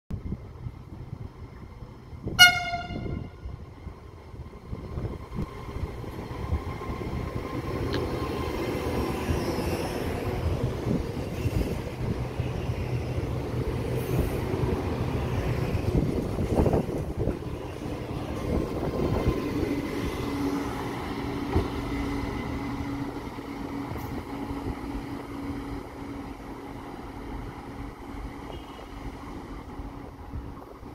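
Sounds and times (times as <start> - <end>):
train wheels on rails: 0.9 - 30.9.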